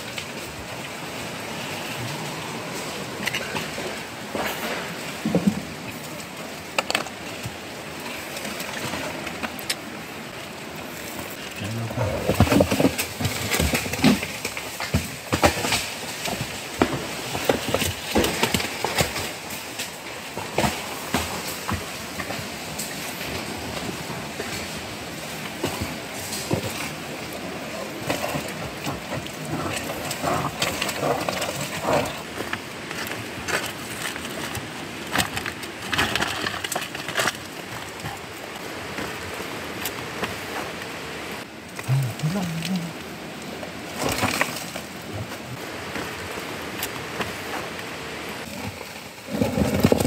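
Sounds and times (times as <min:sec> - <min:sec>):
rustling through dry leaves: 0:00.0 - 0:50.0.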